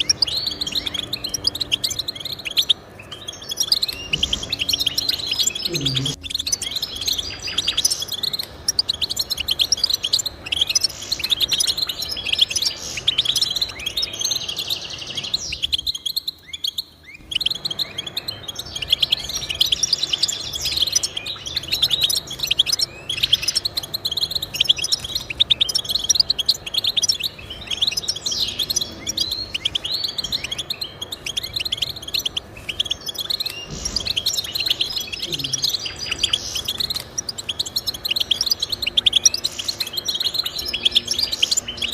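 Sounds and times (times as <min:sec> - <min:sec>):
goldfinch twittering and trilling: 0:00.0 - 0:41.9.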